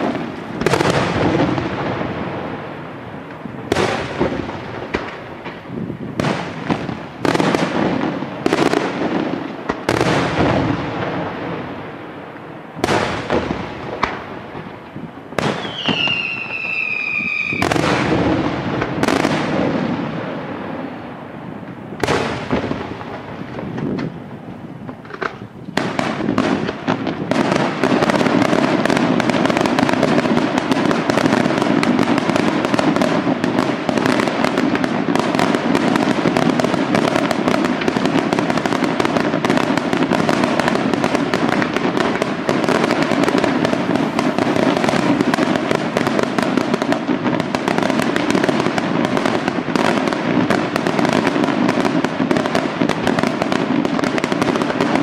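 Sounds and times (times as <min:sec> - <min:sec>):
fireworks barrage crackling: 0:00.0 - 0:55.0.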